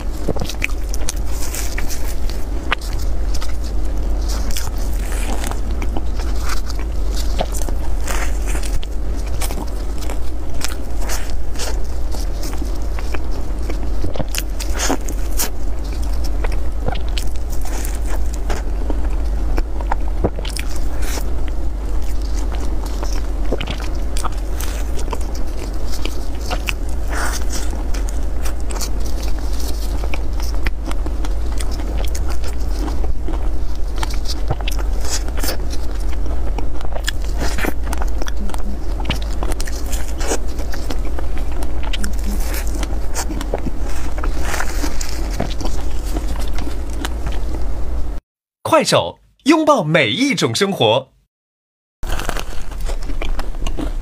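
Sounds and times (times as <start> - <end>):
person chewing food: 0.0 - 47.7, 52.0 - 54.0
steady low hum: 0.0 - 48.2.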